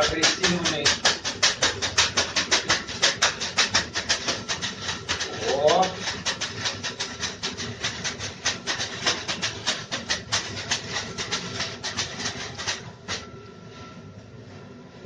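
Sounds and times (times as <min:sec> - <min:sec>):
leafy whisks swishing and patting: 0:00.0 - 0:13.2.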